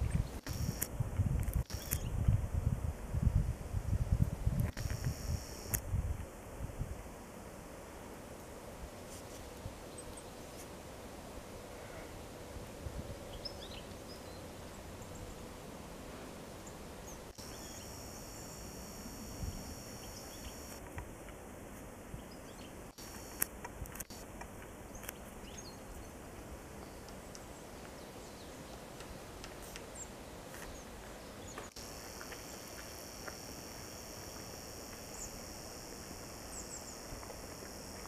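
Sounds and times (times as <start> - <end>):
faint outdoor background noise: 0.0 - 38.0.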